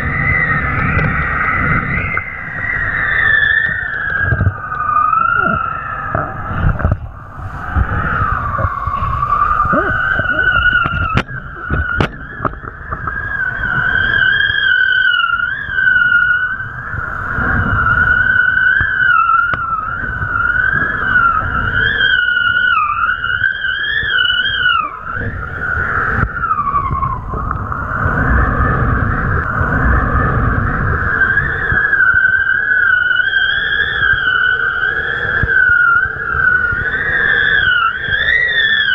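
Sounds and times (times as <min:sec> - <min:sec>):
high wind whistle: 0:00.0 - 0:38.9
wind buffeting microphone: 0:00.0 - 0:38.9.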